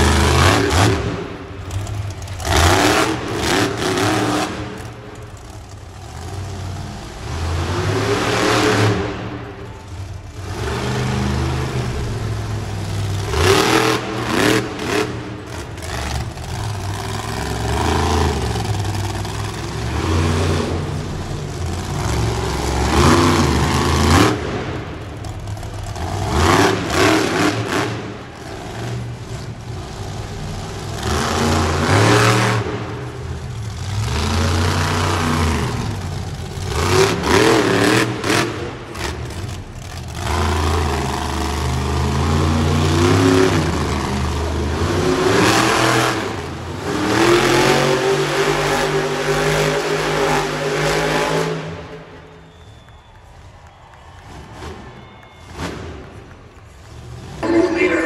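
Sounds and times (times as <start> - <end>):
monster truck engine revving: 0.0 - 58.0
truck crushing cars: 1.6 - 57.4.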